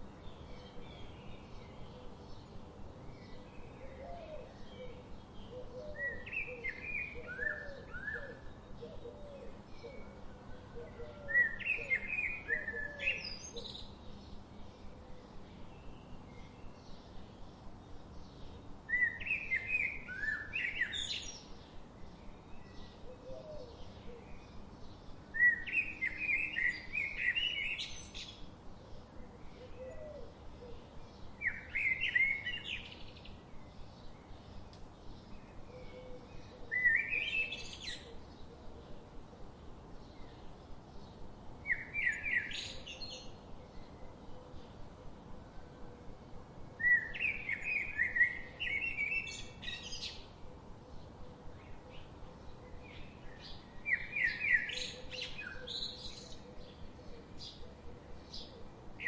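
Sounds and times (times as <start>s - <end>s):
loud bird song phrase: 0.0s - 59.0s.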